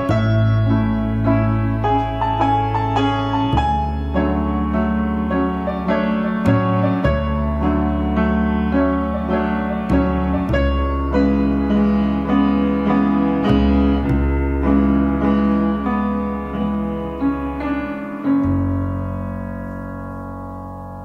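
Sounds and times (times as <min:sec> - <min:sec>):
slow piano playing: 0:00.0 - 0:21.0.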